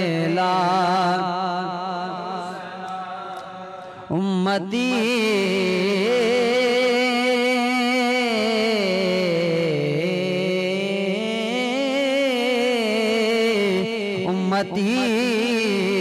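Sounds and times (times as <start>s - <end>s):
man singing unaccompanied: 0.0s - 2.5s, 4.1s - 16.0s.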